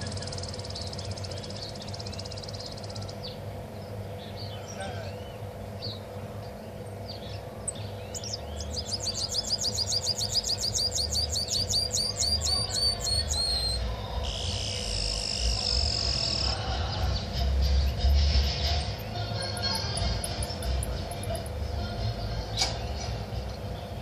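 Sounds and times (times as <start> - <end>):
buzzy bird trill: 0.0 - 22.6
finch singing: 0.0 - 24.0
low steady hum: 0.0 - 24.0.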